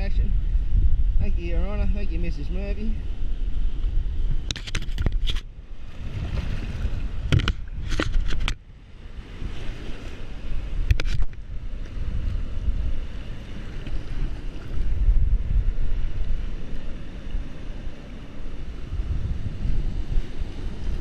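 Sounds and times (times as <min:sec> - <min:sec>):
surf washing: 0:00.0 - 0:21.0
wind rumbling on microphone: 0:00.0 - 0:21.0.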